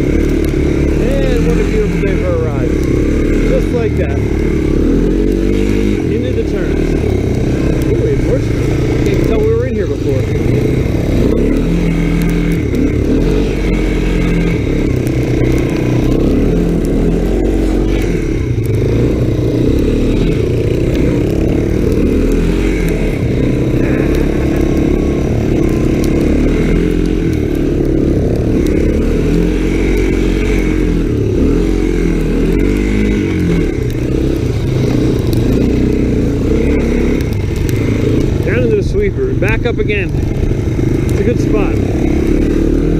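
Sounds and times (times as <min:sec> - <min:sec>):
three-wheeler engine revving: 0:00.0 - 0:42.9.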